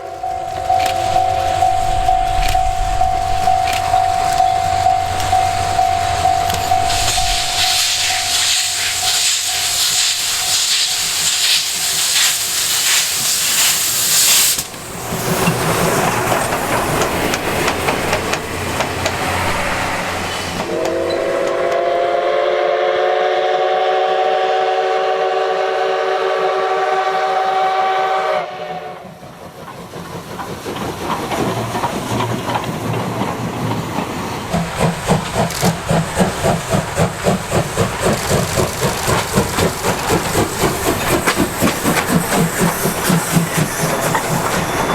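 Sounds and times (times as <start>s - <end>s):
train clatter: 0.0s - 22.3s, 28.8s - 44.9s
steam hissing: 0.0s - 26.2s, 28.6s - 44.9s
steam locomotive chime whistle: 0.0s - 29.2s, 34.5s - 44.9s
steam locomotive chuffing: 0.0s - 44.9s.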